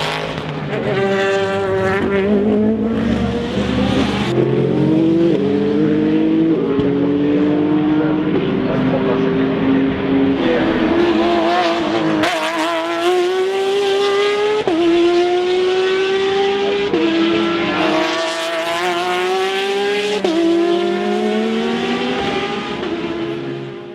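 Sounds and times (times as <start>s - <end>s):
race car engine accelerating: 0.0s - 23.9s.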